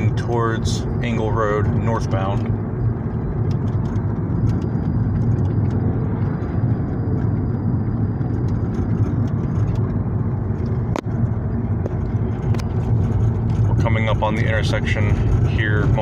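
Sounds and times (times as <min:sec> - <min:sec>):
car driving interior rumble: 0:00.0 - 0:16.0.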